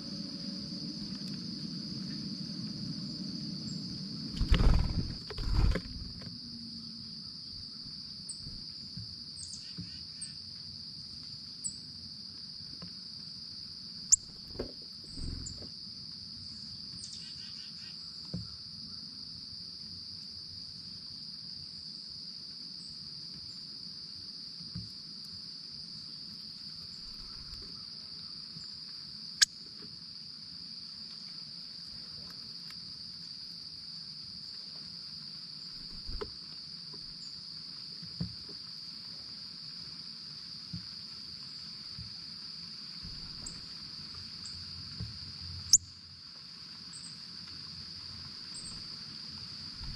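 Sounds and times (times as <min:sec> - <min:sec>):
crickets chirring: 0:00.0 - 0:49.9.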